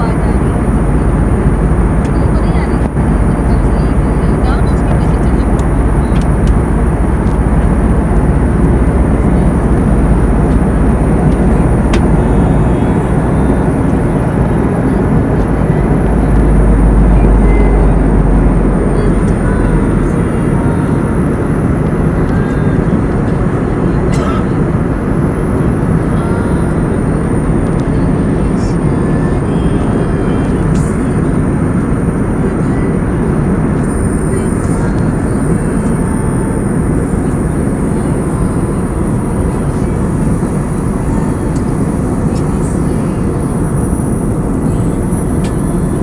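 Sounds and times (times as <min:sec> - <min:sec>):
airliner engine and airflow rush: 0:00.0 - 0:46.0.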